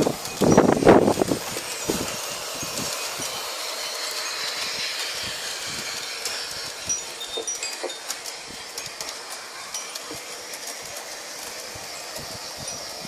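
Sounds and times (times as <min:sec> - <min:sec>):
model train rushing hiss: 0:00.0 - 0:13.0.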